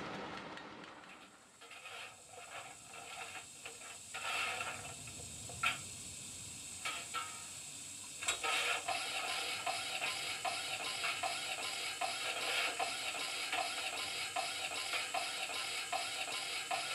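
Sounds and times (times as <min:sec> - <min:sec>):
steam puffs: 0:00.0 - 0:16.9
steam hiss: 0:01.0 - 0:16.9.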